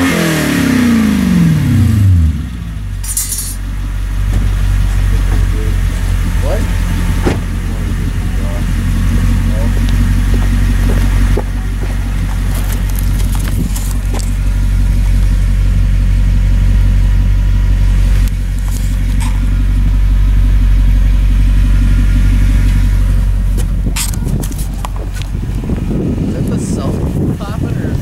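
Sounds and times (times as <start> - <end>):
car engine deep exhaust note: 0.0 - 28.0.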